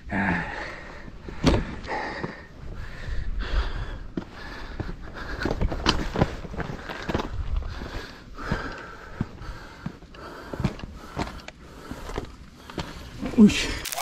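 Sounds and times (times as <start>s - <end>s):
person breathing hard: 0.0s - 13.8s.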